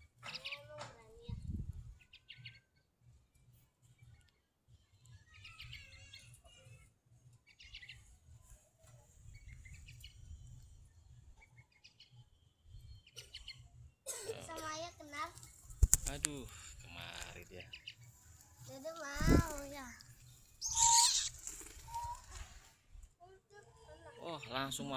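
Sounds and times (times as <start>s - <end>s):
faint bird chirps: 0.2s - 2.8s, 4.0s - 13.9s, 15.4s - 23.1s.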